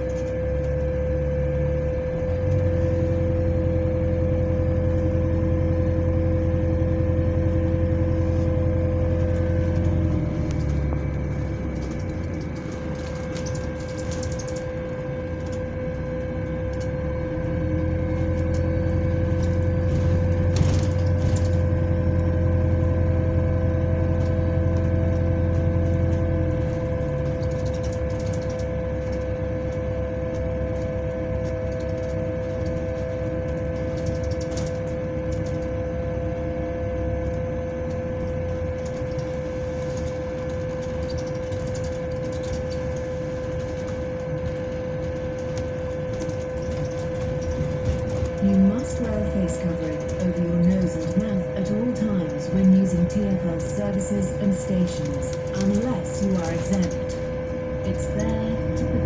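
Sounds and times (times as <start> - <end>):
deep drivetrain hum: 0.0 - 59.0
high-pitched mechanical whine: 0.0 - 59.0.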